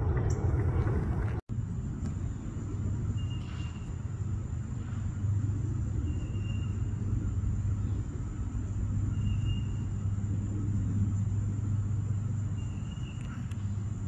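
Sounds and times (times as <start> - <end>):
jet airliner rumbling overhead: 0.0 - 14.0.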